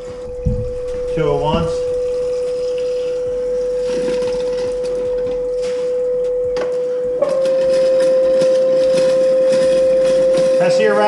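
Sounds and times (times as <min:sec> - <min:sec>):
compressed air whistling: 0:00.0 - 0:11.0.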